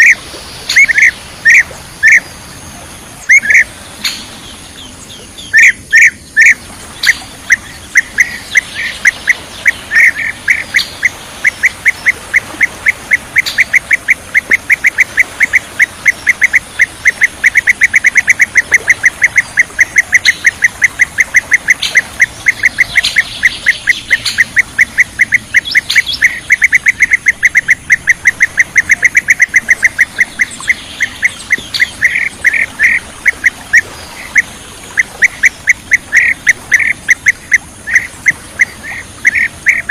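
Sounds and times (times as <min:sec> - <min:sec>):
bird chirping: 0:00.0 - 0:33.5.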